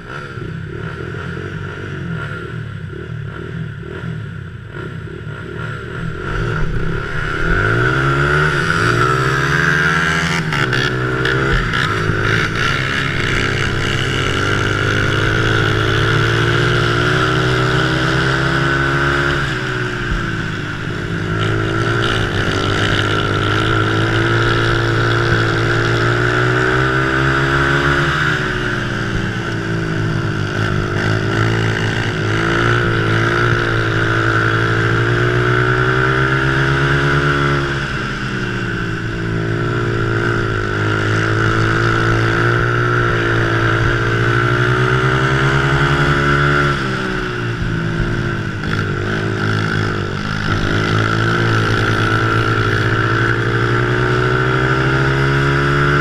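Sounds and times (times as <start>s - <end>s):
small engine revving: 0.0s - 56.0s.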